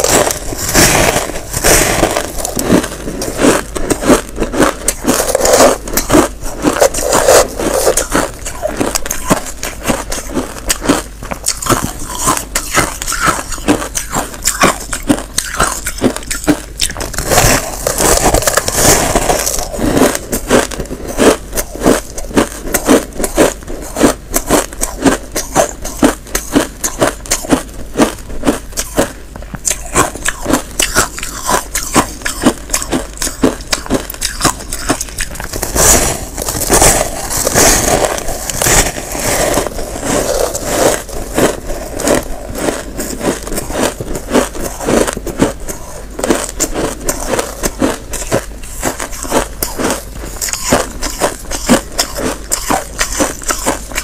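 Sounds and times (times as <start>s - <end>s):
chewing crunchy ice: 0.0s - 54.0s.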